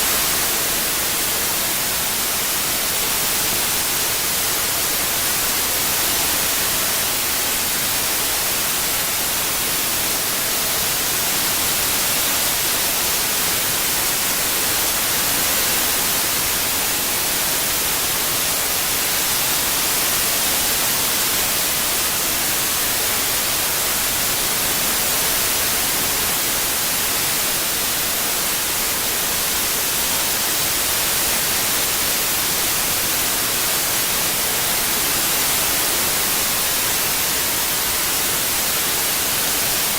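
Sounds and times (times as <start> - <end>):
synthetic white noise hiss: 0.0 - 39.9.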